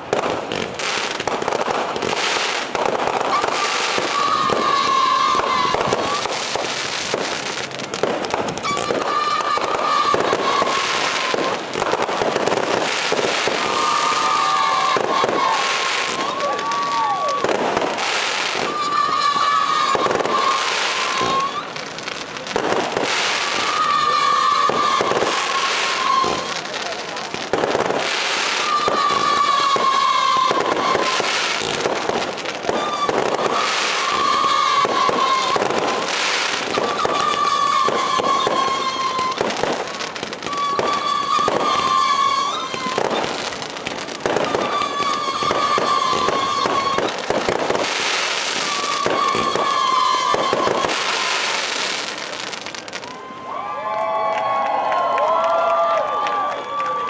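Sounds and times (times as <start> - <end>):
falling firework whistles: 0.0 - 55.1
fireworks bangs and crackling: 0.0 - 57.0.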